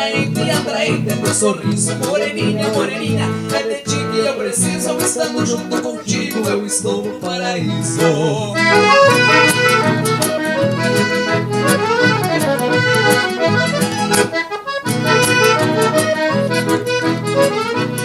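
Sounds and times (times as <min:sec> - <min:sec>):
band keeping a steady beat: 0:00.0 - 0:07.1, 0:07.8 - 0:18.0
accordion playing: 0:00.0 - 0:18.0.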